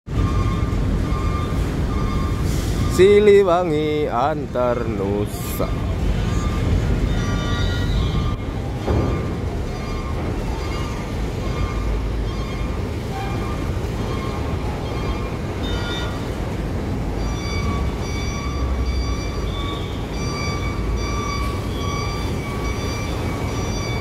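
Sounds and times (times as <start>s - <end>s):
high repeating beeping: 0.1s - 3.7s, 5.4s - 24.0s
idling diesel vehicles rumble: 0.1s - 24.0s.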